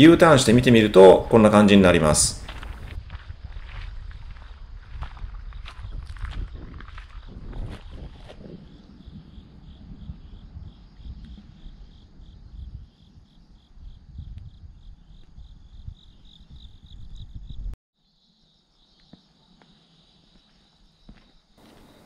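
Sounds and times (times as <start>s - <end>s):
crickets chirping: 0.0s - 22.0s
insect trill: 0.0s - 22.0s.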